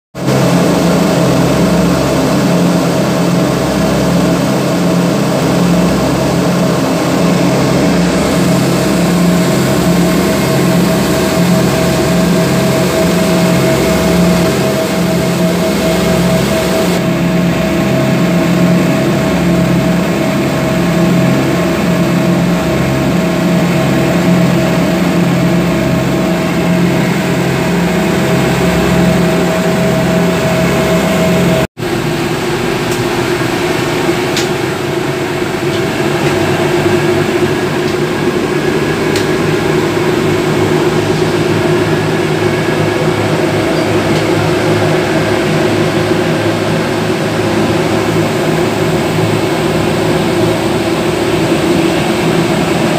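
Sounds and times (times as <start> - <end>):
outboard motor drone: 0.2 - 52.9
water rushing and spray: 2.4 - 52.9.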